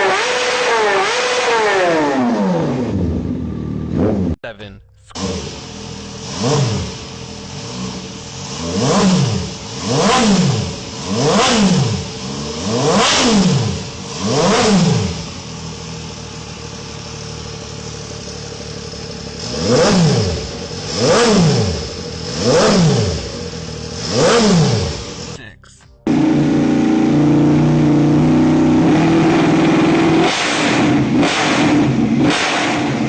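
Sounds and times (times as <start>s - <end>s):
motorcycle engine revving: 0.0s - 4.4s, 5.0s - 25.4s, 26.0s - 33.0s.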